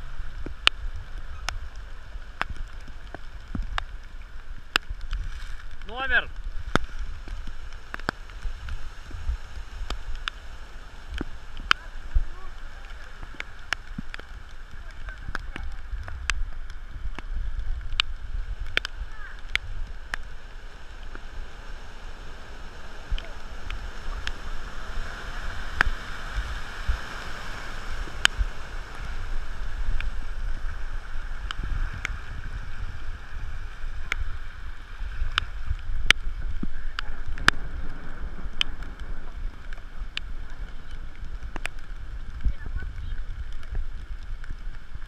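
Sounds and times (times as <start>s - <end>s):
floodwater running: 0.0s - 45.0s
wind rumble on microphone: 0.0s - 45.0s.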